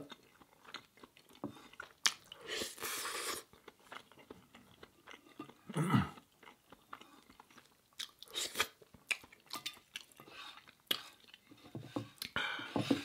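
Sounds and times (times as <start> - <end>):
wet chewing sounds: 0.0 - 12.4.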